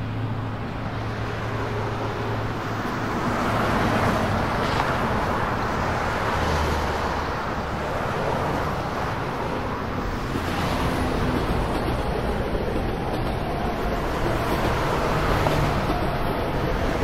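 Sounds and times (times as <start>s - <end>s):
vehicle rumble with hiss: 0.0s - 17.0s.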